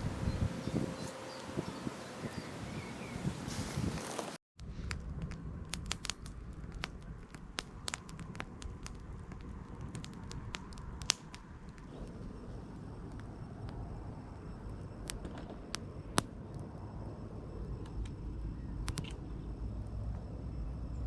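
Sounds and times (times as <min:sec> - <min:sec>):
campfire crackling: 0:00.0 - 0:18.2.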